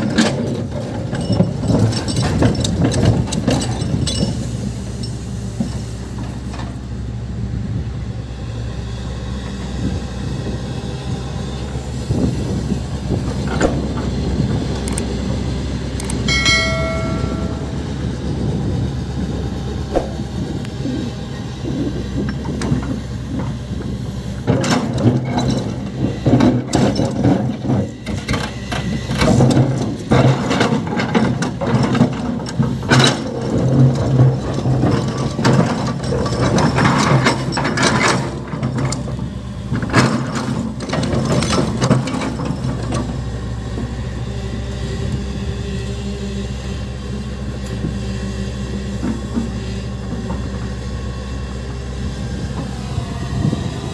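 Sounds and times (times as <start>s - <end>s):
diesel engines running: 0.0s - 53.9s.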